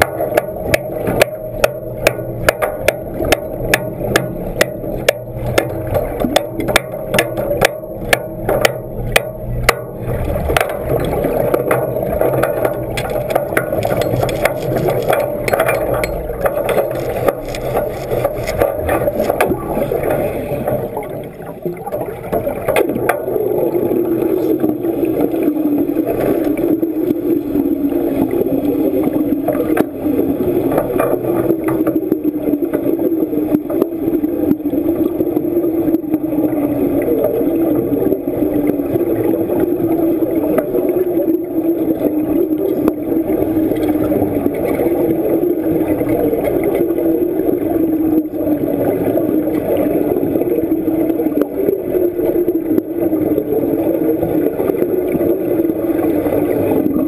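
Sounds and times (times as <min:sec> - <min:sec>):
underwater welding arc drone: 0:00.0 - 0:57.0
faint crackles: 0:10.0 - 0:57.0.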